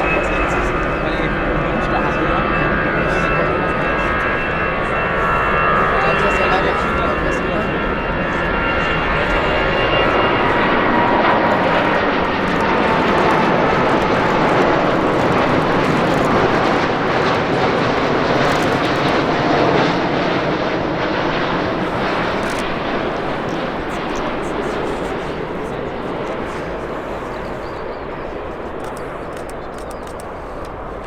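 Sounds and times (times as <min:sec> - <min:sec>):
jet engines passing: 0:00.0 - 0:31.0.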